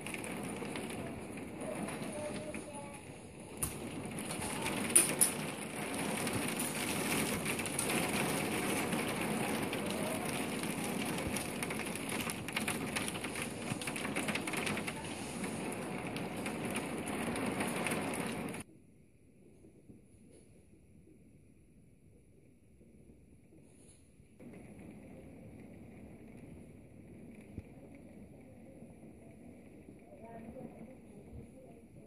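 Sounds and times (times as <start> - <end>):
steady rain falling: 0.0 - 18.6, 24.4 - 32.0.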